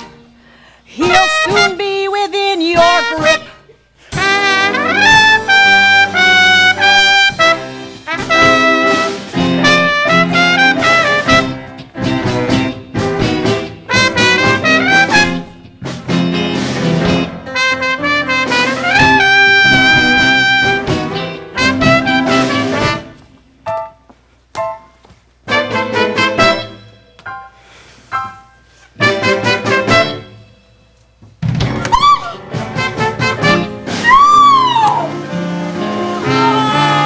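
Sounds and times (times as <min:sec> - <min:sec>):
swing band led by brass: 0:00.0 - 0:00.4, 0:01.0 - 0:02.1, 0:02.8 - 0:23.4, 0:25.5 - 0:26.8, 0:28.9 - 0:30.4, 0:31.6 - 0:37.0.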